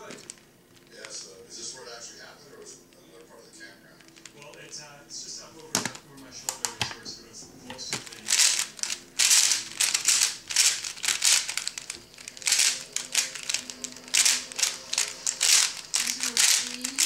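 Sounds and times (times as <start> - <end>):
puzzle cube clacking and scraping: 0.0 - 1.4, 4.0 - 4.9, 5.5 - 17.0.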